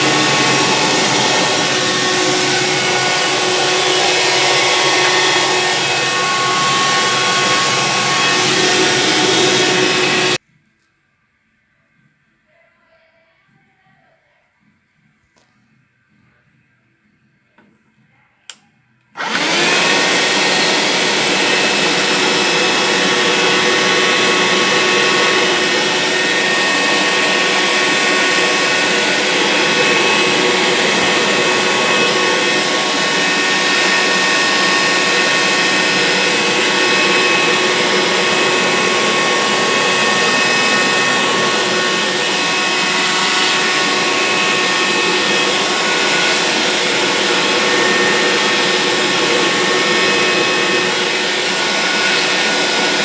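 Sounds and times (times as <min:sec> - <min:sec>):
handheld vacuum motor running: 0:00.0 - 0:10.4, 0:19.2 - 0:53.0.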